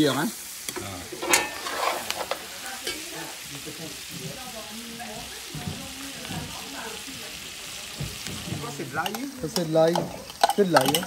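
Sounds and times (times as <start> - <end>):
sausages and onions sizzling: 0.0 - 11.0.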